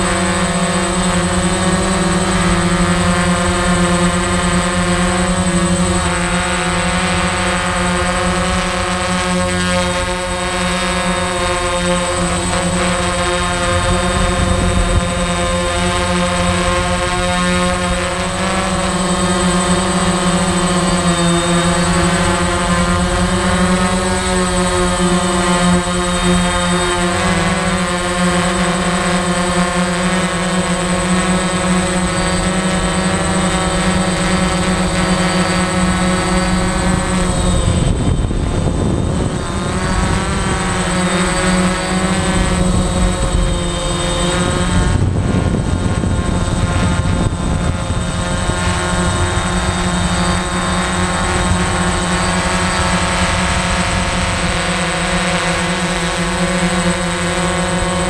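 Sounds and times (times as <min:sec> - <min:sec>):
drone propellers humming: 0:00.0 - 0:58.0.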